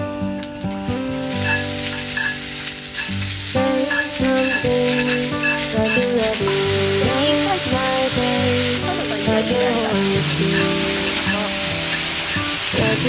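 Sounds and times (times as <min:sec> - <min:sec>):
background music: 0:00.0 - 0:13.0
mushrooms sizzling in a skillet: 0:00.4 - 0:13.0.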